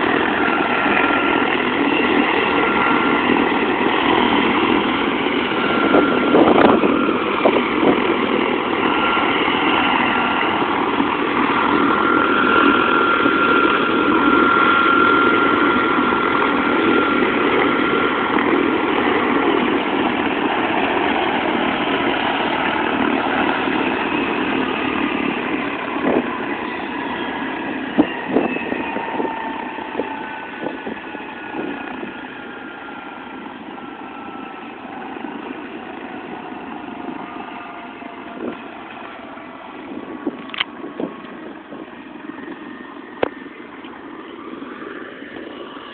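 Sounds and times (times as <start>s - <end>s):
helicopter engine and rotor whine: 0.0s - 45.9s.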